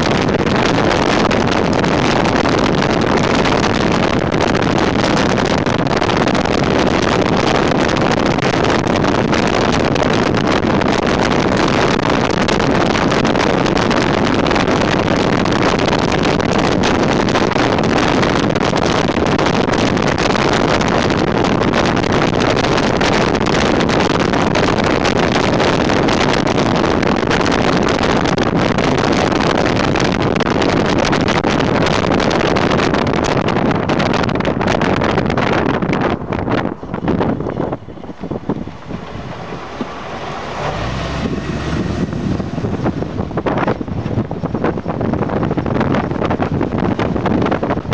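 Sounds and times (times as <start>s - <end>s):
tyre and road noise: 0.0s - 47.9s
wind rushing over microphone: 0.0s - 47.9s.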